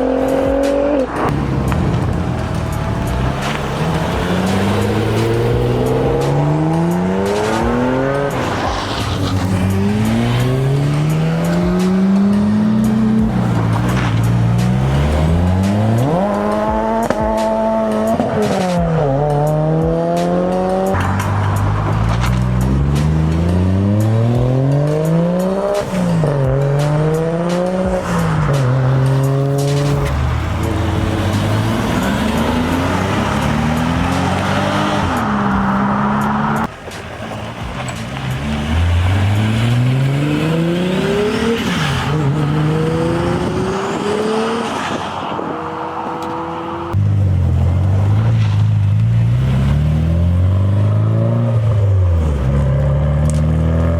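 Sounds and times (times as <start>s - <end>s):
car engines accelerating hard: 0.0s - 53.9s.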